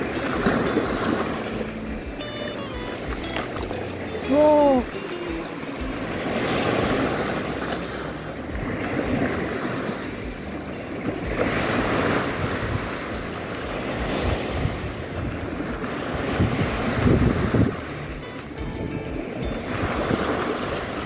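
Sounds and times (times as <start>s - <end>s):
surf washing on sand: 0.0s - 21.0s
wind buffeting microphone: 0.0s - 21.0s.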